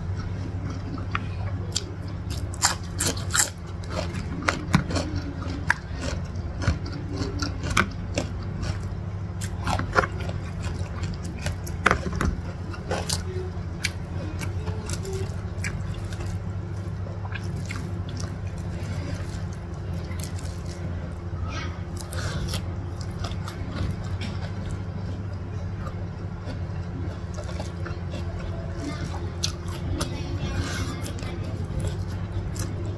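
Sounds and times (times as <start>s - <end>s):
steady low hum: 0.0s - 32.9s
wet chewing and smacking: 0.0s - 32.9s.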